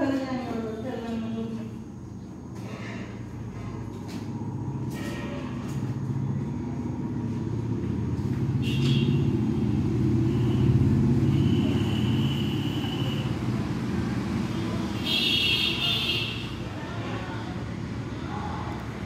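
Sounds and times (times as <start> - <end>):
road traffic rumble: 0.0 - 19.0
vehicle passing: 0.0 - 19.0.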